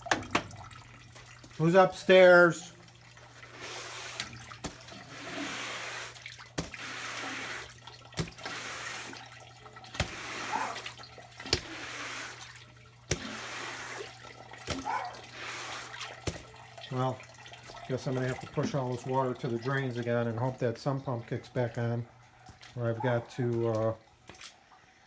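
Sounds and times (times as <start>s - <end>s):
floodwater sloshing: 0.0s - 24.8s.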